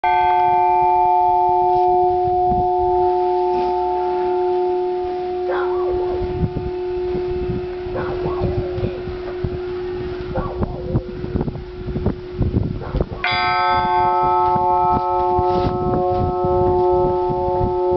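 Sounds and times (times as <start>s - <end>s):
church bell ringing: 0.0s - 12.4s, 13.2s - 17.9s
wind rumble on microphone: 1.5s - 17.9s.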